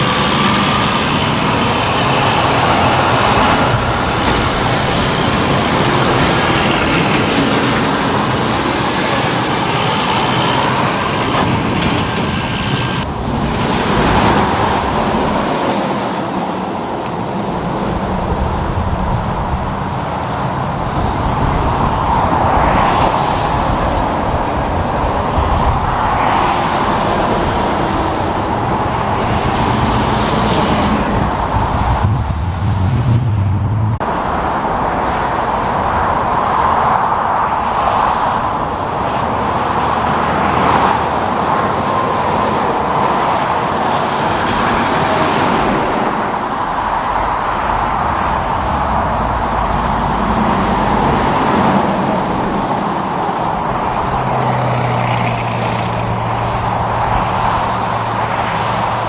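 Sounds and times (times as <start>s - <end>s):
truck engine droning: 0.0s - 59.0s
tyre noise from passing traffic: 0.0s - 59.0s.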